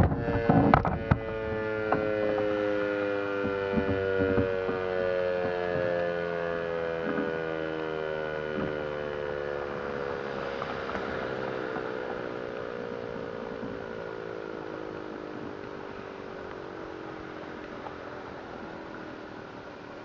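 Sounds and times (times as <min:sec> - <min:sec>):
warning siren winding down: 0:00.0 - 0:20.0.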